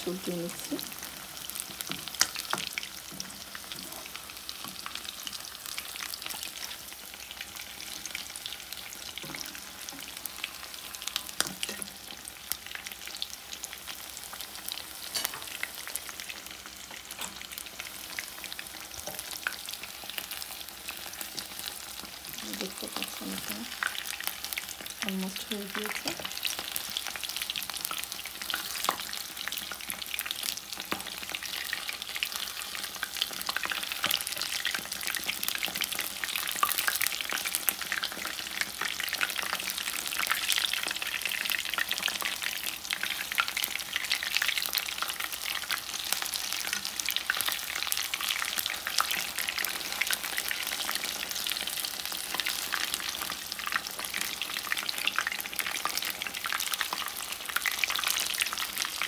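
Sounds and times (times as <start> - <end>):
fish frying in hot oil: 0.0 - 59.0.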